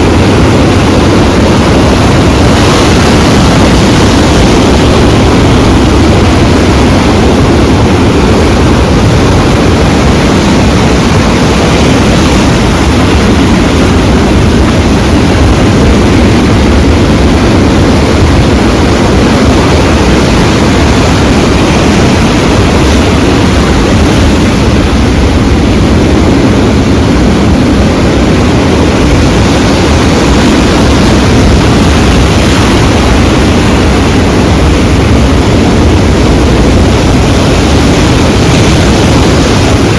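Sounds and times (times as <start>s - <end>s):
sea waves and surf rushing: 0.0s - 39.9s.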